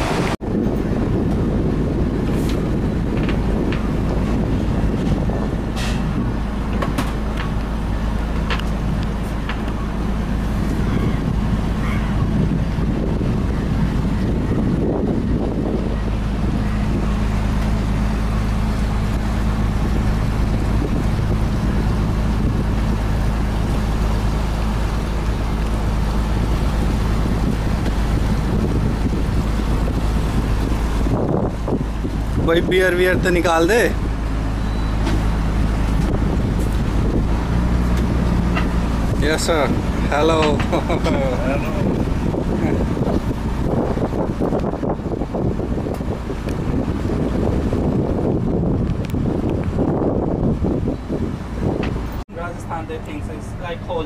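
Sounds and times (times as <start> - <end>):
engine droning steadily: 0.0 - 54.0
wind noise on microphone: 0.0 - 54.0.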